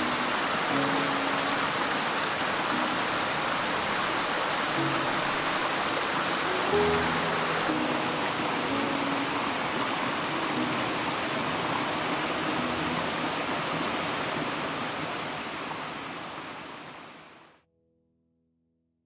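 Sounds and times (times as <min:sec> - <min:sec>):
stream water rushing: 0:00.0 - 0:17.5.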